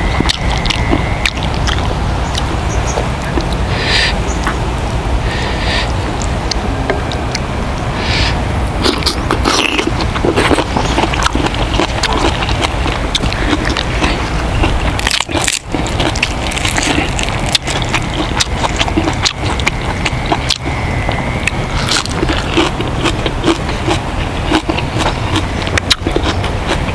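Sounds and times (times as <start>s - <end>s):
person chewing and crunching food: 0.0s - 4.5s, 8.1s - 26.9s.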